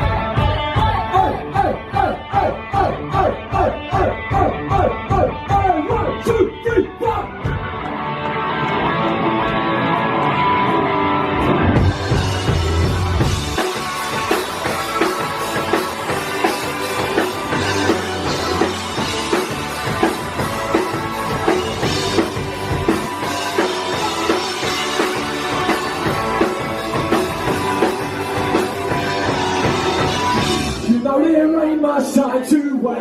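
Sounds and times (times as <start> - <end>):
drum kit beat: 0.0 - 7.9, 11.7 - 31.1
bass guitar: 0.0 - 32.2
electric guitars: 0.0 - 32.2.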